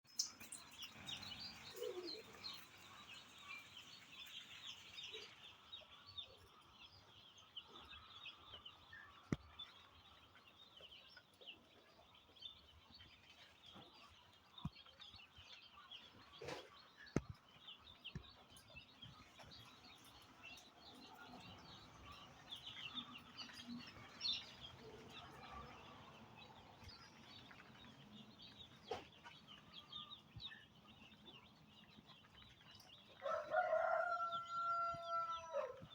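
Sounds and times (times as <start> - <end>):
chickens clucking: 0.2 - 35.9.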